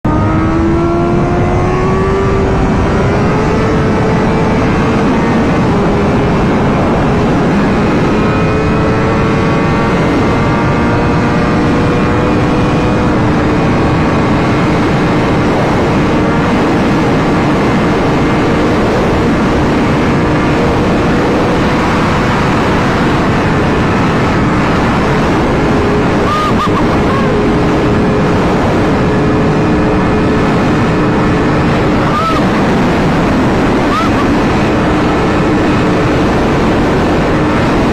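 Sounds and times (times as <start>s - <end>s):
constant rush of noise: 0.0s - 37.9s
motorcycle engine running: 0.0s - 37.9s.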